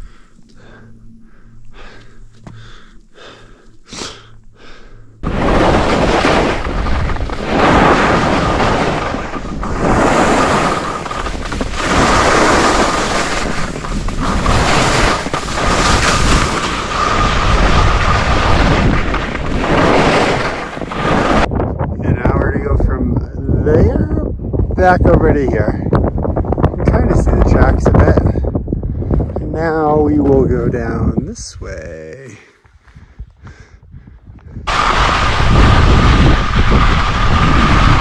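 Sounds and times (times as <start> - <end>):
wind rushing over microphone: 4.6 - 38.0.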